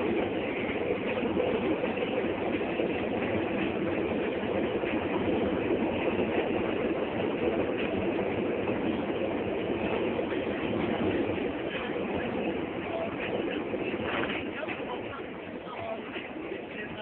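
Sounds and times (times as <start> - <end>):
vehicle engine and road noise: 0.1 - 17.0.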